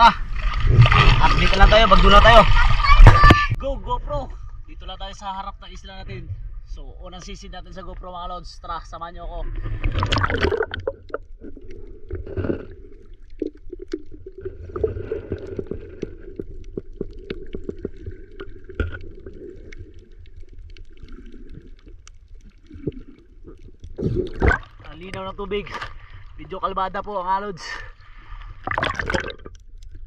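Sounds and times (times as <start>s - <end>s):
underwater rumble of moving water: 0.0s - 30.0s.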